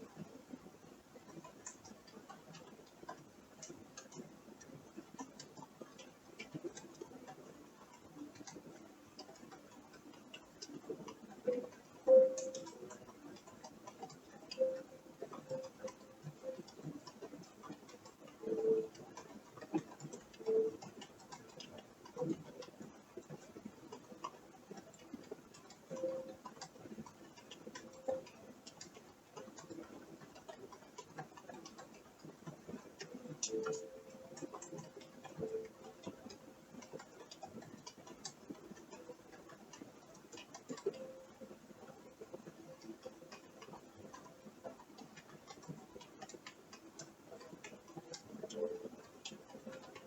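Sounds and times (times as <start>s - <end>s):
small clicking ticks: 0.0s - 50.0s.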